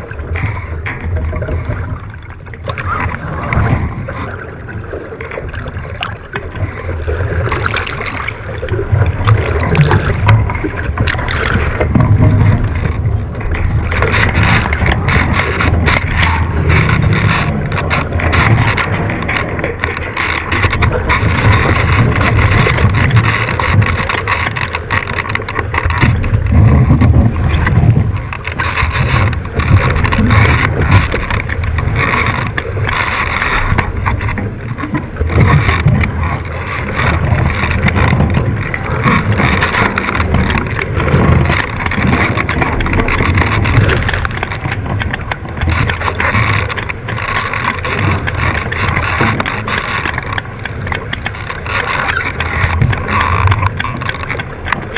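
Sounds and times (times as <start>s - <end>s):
water rushing along hull: 0.0s - 54.9s.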